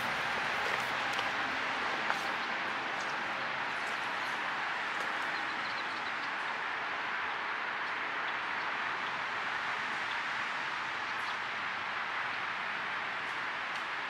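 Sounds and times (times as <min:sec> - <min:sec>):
distant highway traffic hiss: 0:00.0 - 0:14.0.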